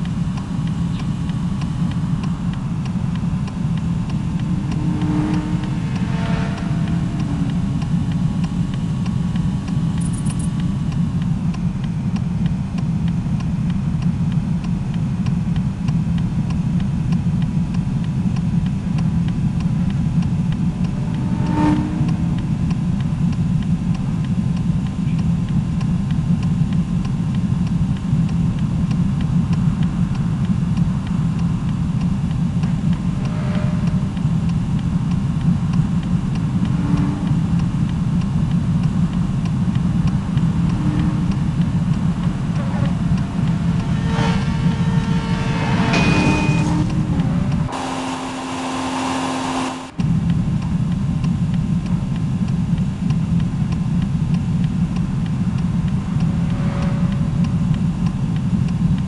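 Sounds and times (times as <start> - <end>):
vehicle rumble: 0.0 - 59.0.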